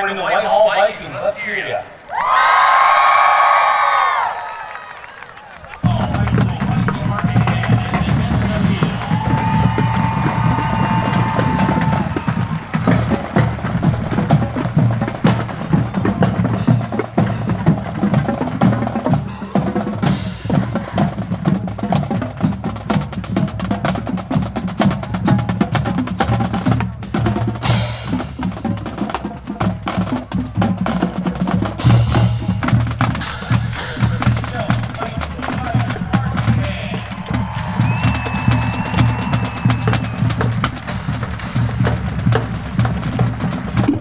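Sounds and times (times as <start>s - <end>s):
bass drum tones: 5.8s - 44.0s.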